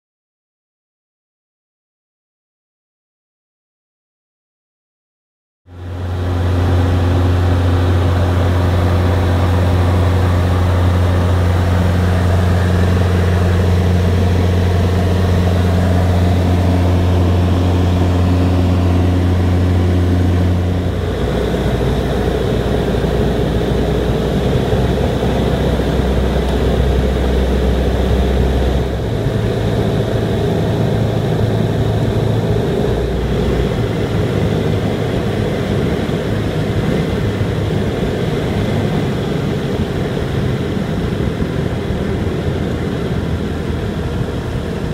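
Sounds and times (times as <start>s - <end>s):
light aircraft engine droning: 5.7s - 44.9s.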